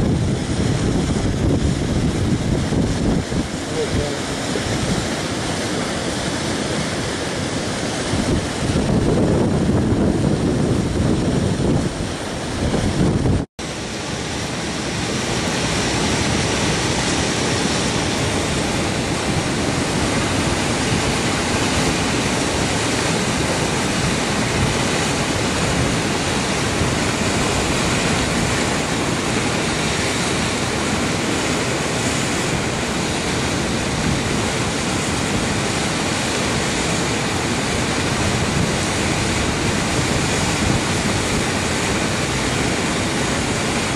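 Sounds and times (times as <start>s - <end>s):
rushing flood water: 0.0s - 43.9s.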